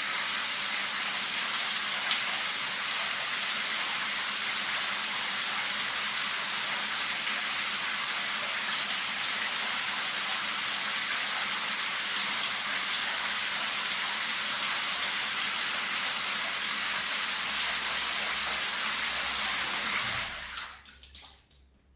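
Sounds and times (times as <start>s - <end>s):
shower water spray: 0.0s - 20.8s.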